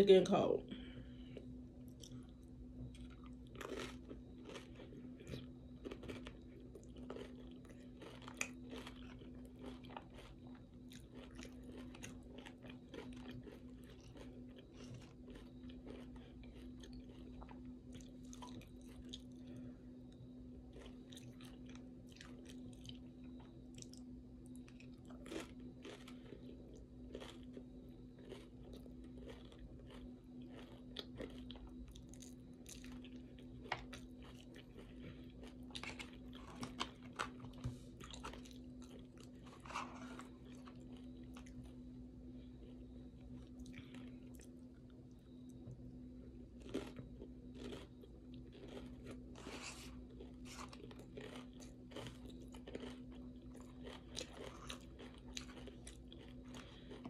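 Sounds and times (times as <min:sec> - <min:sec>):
steady low hum: 0:00.0 - 0:57.0
crunching tortilla chips: 0:01.8 - 0:41.8, 0:46.5 - 0:57.0.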